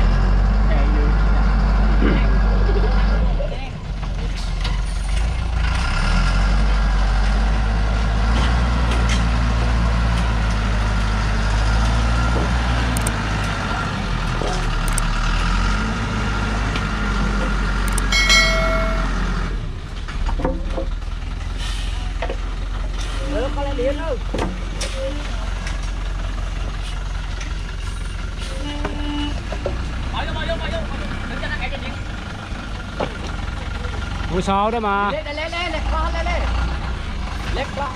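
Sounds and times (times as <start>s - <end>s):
truck engine labouring: 0.0s - 37.9s.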